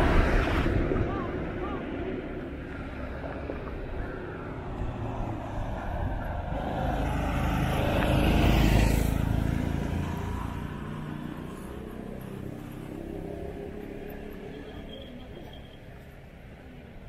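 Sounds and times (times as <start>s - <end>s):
car driving past: 0.0s - 15.8s.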